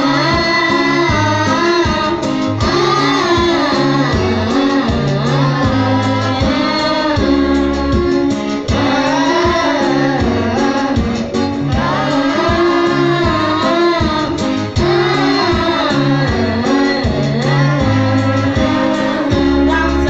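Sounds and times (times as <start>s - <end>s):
amplified instrumental backing: 0.0s - 20.0s
children singing through microphones: 0.0s - 20.0s.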